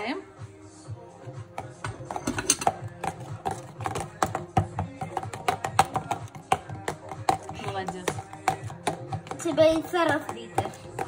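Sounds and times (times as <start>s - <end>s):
background music: 0.0s - 11.0s
spoon clinking against plastic jug: 1.5s - 11.0s.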